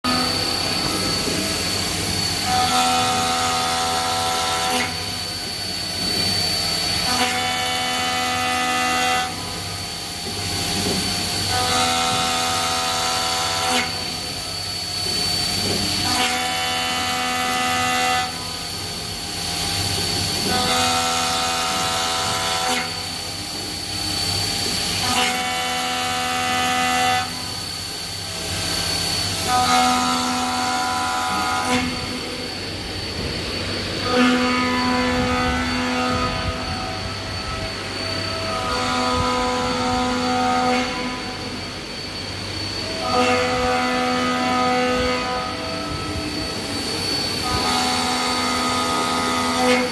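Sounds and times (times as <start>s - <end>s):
milling spindle high whine: 0.0s - 49.9s.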